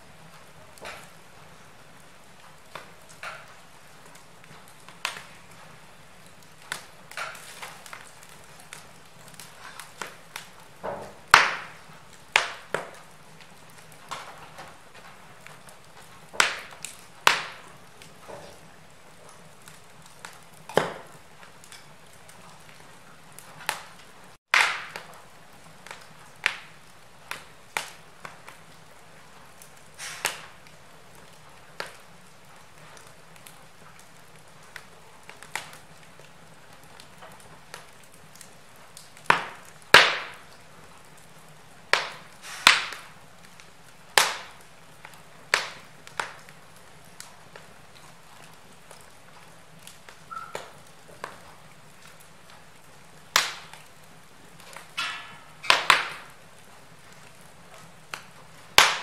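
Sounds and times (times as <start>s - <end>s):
faint steady hiss: 0.0s - 59.0s
wood fire crackling: 0.0s - 59.0s.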